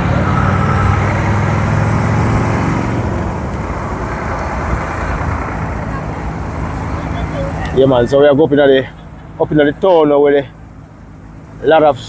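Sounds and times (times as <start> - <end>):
road noise: 0.0 - 12.0
vehicle engine rumble passing: 0.0 - 12.0.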